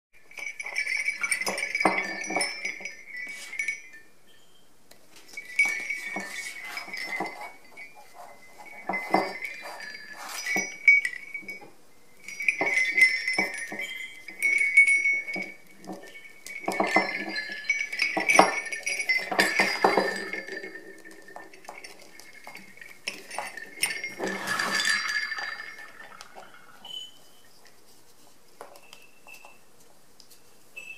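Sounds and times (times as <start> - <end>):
sleigh bells jingling: 0.2 - 4.5, 5.2 - 27.6
handling clicks and knocks: 0.3 - 3.8, 4.9 - 26.9.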